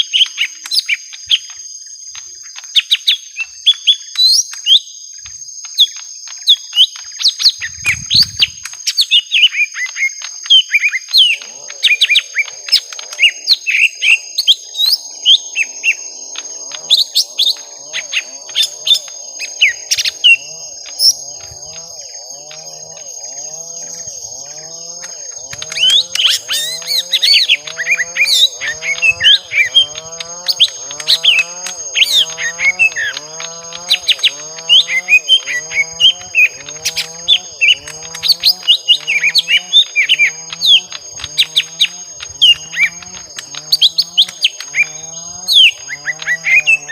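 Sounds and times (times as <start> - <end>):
birds chirping fight calls: 0.0 - 46.9
lower repeated bird call: 0.0 - 46.9.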